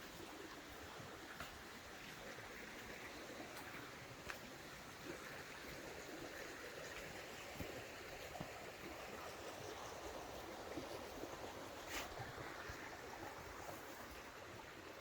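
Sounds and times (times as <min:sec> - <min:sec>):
faint ticks and crackles: 0:00.0 - 0:15.0
faint wash of water: 0:00.0 - 0:15.0.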